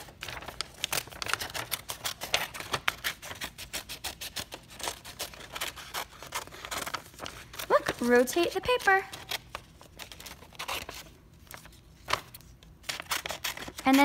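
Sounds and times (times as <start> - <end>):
scissors snipping paper: 0.1 - 11.0, 12.2 - 14.0.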